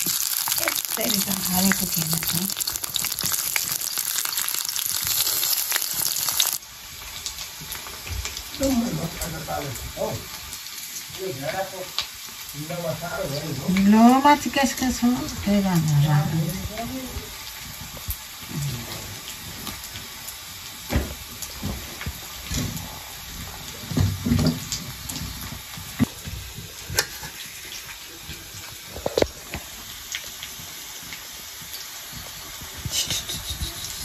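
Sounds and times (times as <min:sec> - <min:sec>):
stove hissing: 0:00.0 - 0:34.0.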